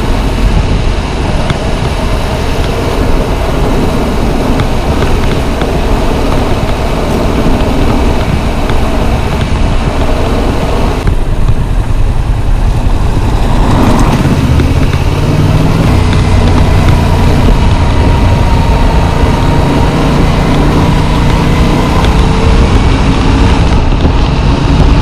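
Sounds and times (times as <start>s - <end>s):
motorcycle engine running: 0.0s - 25.0s
wind rush: 0.0s - 25.0s.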